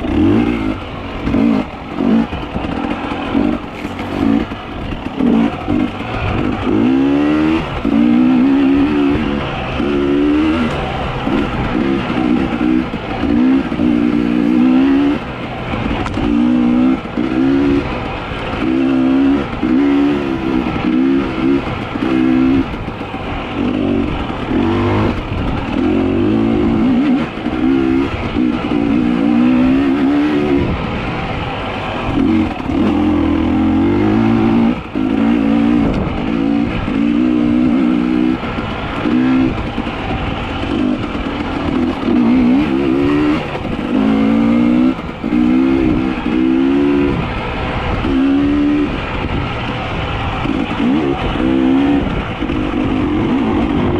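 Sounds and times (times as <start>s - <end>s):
engine revving: 0.0s - 53.9s.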